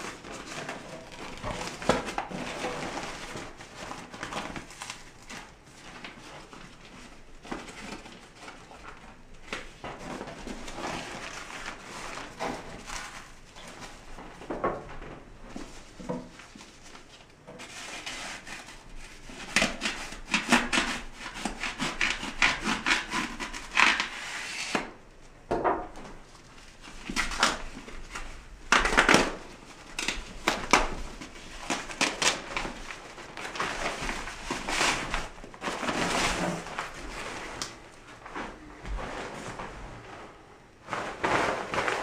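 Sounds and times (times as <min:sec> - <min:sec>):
plastic covering rustling and crinkling: 0:00.0 - 0:42.0.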